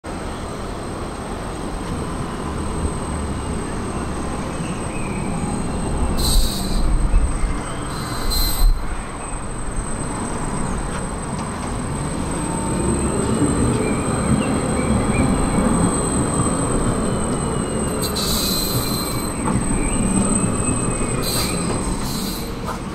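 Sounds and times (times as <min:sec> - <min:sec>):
tram rumbling along track: 0:00.0 - 0:22.9
wheel squeals: 0:03.4 - 0:22.9.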